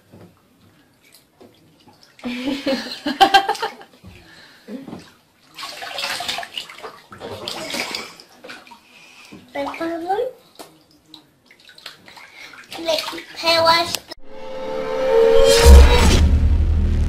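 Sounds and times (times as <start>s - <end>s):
water splashing in bathtub: 0.0s - 14.1s.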